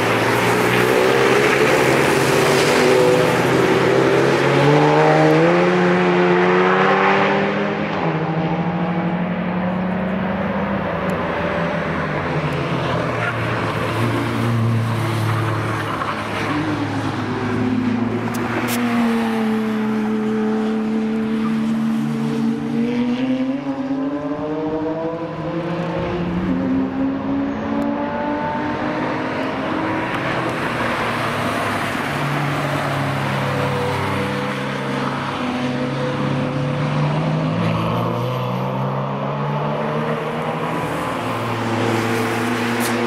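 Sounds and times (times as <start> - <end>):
race cars driving past: 0.0 - 43.0.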